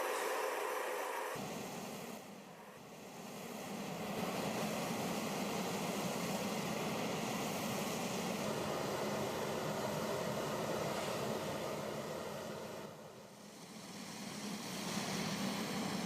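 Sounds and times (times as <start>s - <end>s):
turbine engines running: 0.0s - 16.0s.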